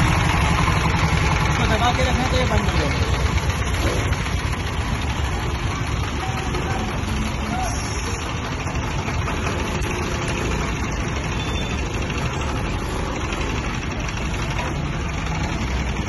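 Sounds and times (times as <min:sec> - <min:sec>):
diesel generator running: 0:00.0 - 0:16.0.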